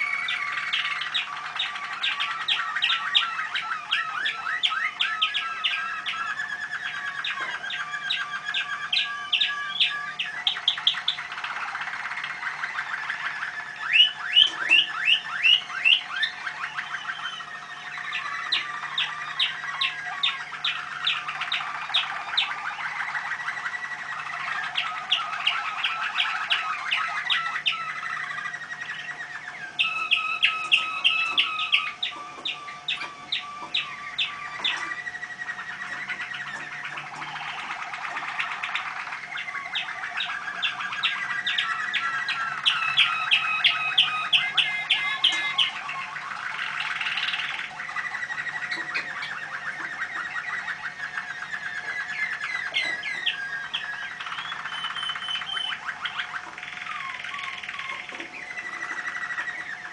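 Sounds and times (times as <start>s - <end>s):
canaries singing trills: 0.0s - 59.9s.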